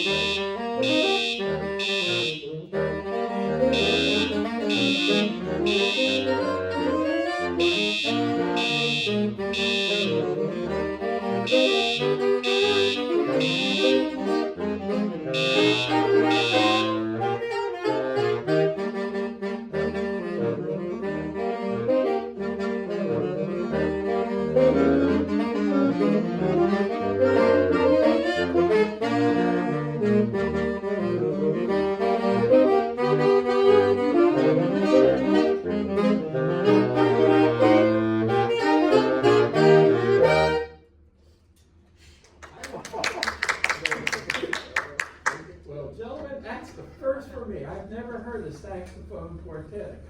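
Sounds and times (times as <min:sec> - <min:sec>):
saxophone quartet playing: 0:00.0 - 0:40.9.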